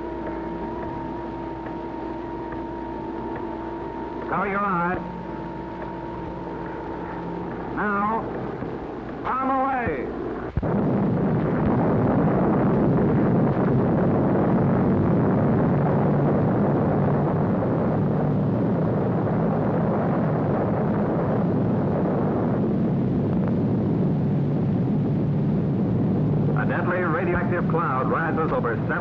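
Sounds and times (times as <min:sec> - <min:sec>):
explosion rumble: 0:00.0 - 0:29.0.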